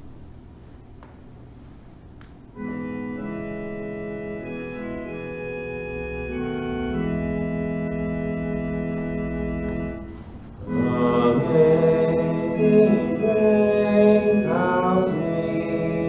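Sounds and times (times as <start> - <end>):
low room hum: 0.0 - 16.0
organ playing sustained chords: 2.5 - 16.0.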